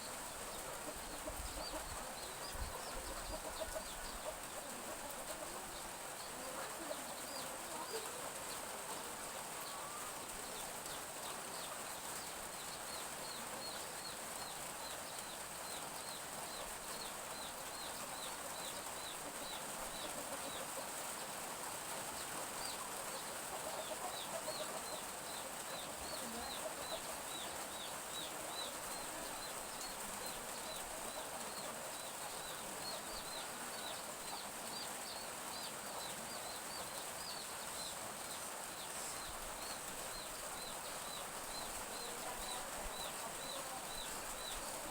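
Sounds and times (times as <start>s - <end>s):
light drizzle hiss: 0.0s - 44.9s
chicks peeping: 0.3s - 8.9s, 9.6s - 20.9s, 22.2s - 44.9s.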